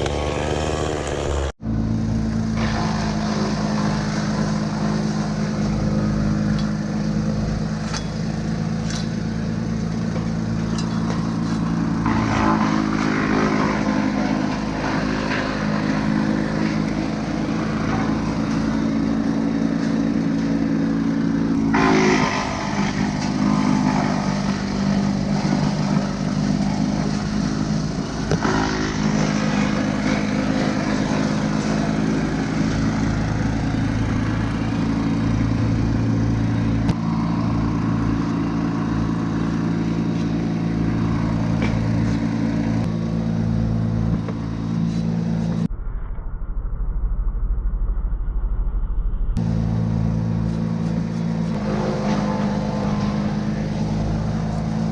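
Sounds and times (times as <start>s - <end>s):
engine running steadily: 0.0s - 45.7s, 48.2s - 54.9s
deeper engine tone: 0.0s - 54.9s.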